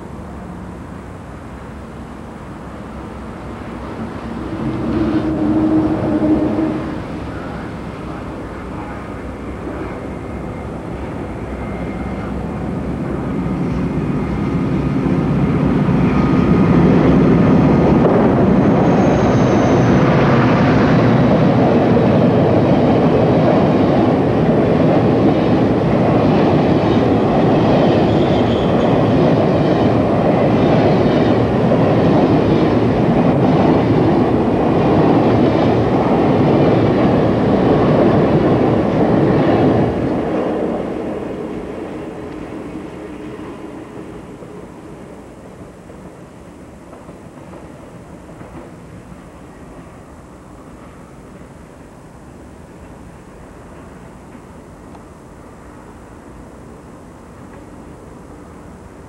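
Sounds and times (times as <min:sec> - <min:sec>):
diesel locomotives approaching: 0:00.0 - 0:59.0
train cars rolling past: 0:00.1 - 0:59.0.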